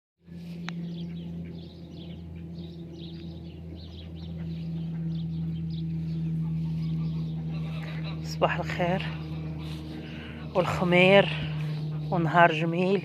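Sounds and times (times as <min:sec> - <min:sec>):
birds chirping: 0:00.2 - 0:13.0
steady low hum: 0:00.2 - 0:13.0.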